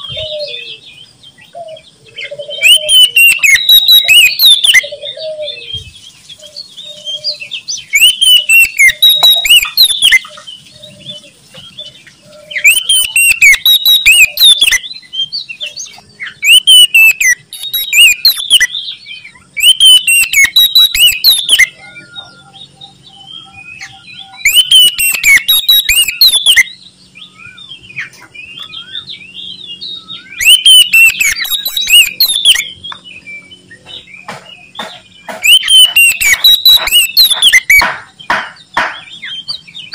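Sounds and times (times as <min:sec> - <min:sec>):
bird singing whistled notes: 0:00.0 - 0:37.9.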